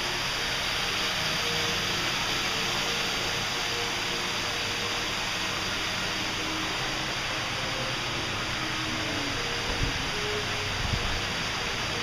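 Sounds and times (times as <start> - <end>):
waterfall rushing down rock: 0.0 - 12.0.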